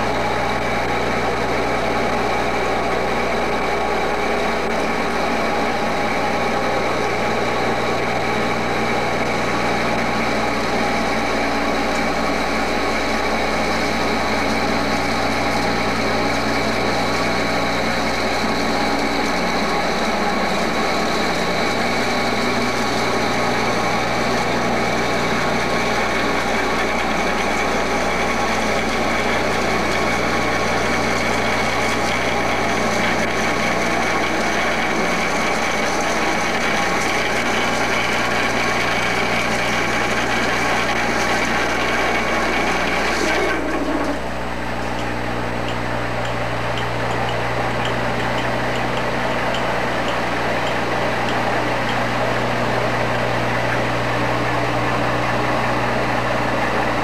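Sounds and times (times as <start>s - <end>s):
lathe drilling metal: 0.0s - 57.0s.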